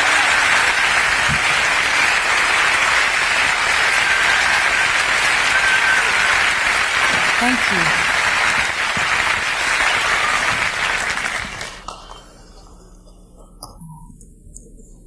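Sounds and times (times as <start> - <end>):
audience applause: 0.0 - 12.2.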